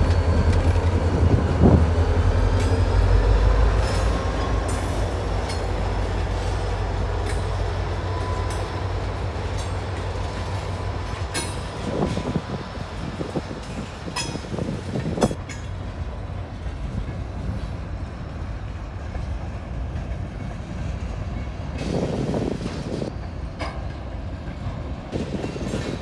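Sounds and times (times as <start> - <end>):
locomotive engine drone: 0.0 - 25.2
train wheels clicking and thudding: 0.0 - 26.0.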